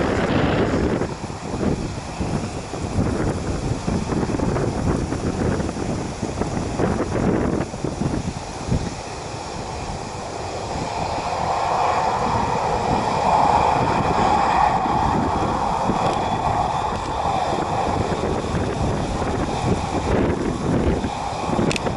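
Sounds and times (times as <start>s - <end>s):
high-pitched engine whine: 0.0s - 21.9s
jet engines roaring: 0.0s - 21.9s
wind buffeting microphone: 0.0s - 21.9s.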